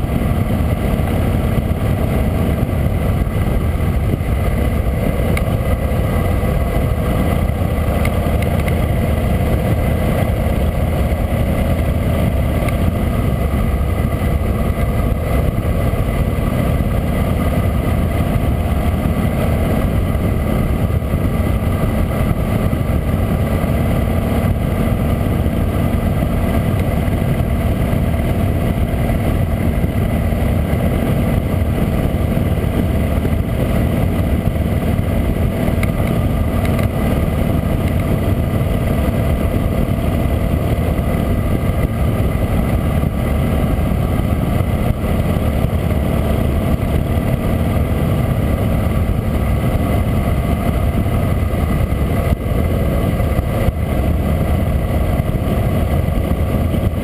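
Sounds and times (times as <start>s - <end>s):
motorcycle engine cruising: 0.0s - 57.0s
road noise: 0.0s - 57.0s
wind noise: 0.0s - 57.0s.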